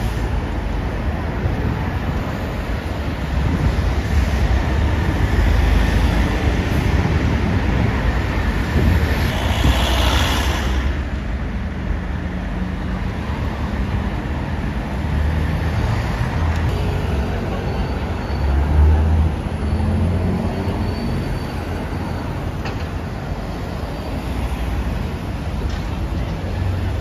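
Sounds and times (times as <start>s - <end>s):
traffic rumble: 0.0s - 27.0s.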